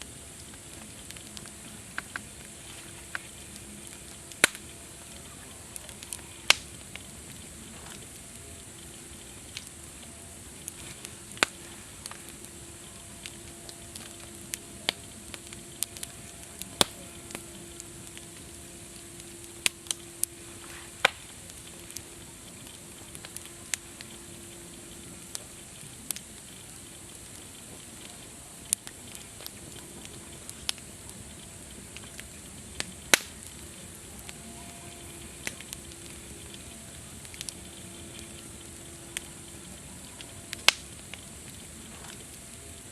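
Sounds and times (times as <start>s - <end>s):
campfire hissing and crackling: 0.0s - 42.9s.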